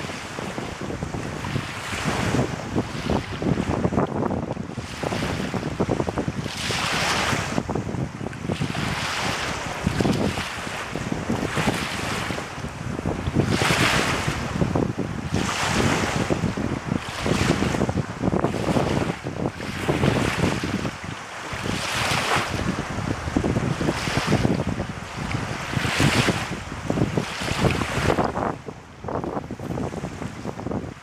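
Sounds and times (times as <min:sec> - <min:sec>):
gusty wind on microphone: 0:00.0 - 0:31.0
waves washing on rocky shore: 0:00.0 - 0:31.0.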